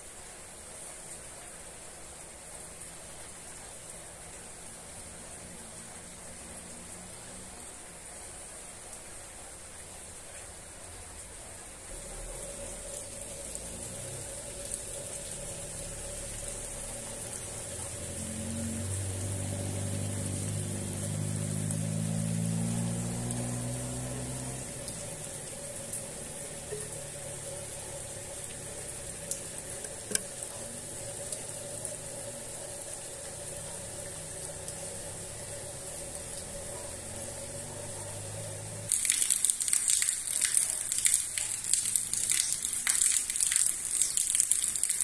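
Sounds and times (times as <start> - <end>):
faint steady hum: 0.0 - 38.9
rain falling on trees: 0.0 - 45.0.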